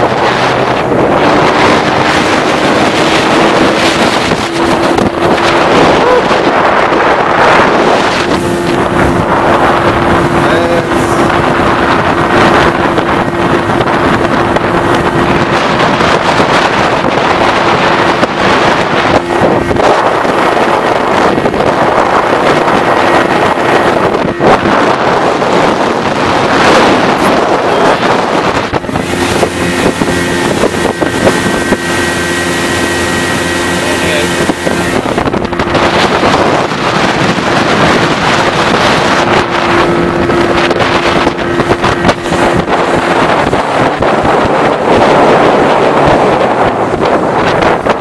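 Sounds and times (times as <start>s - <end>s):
outboard motor running: 0.0s - 48.0s
wind buffeting microphone: 0.0s - 48.0s.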